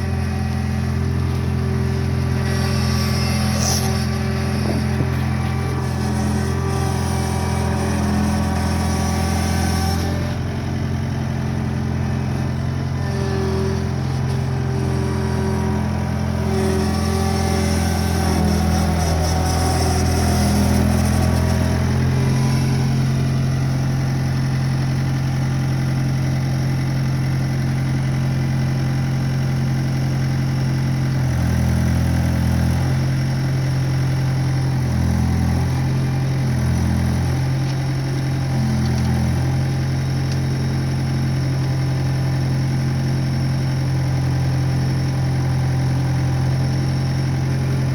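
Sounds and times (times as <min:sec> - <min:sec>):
skid steer engine running: 0:00.0 - 0:47.9.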